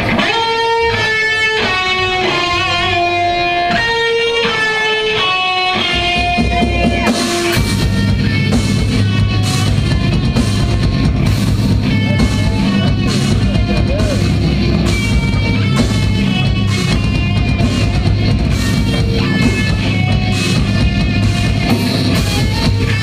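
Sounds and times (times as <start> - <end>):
clean electric guitar notes: 0.0 - 23.0
metal band playing: 0.0 - 23.0.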